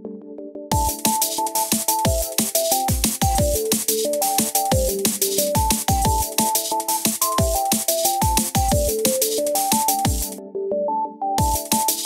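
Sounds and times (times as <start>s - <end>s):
electronic music with fast drums: 0.7s - 10.4s, 11.4s - 12.0s.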